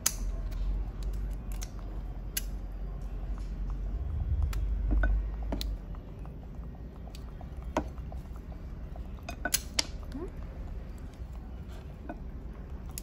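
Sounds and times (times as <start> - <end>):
tuber shells clicking: 0.0 - 2.8, 4.5 - 13.0
low rumble: 0.6 - 13.0.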